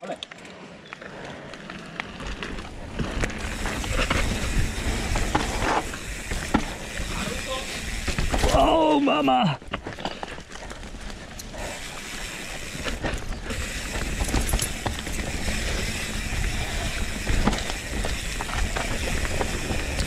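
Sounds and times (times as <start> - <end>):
bike tyres rolling over dirt: 0.0 - 20.0
bike chain and frame rattling: 0.1 - 20.0.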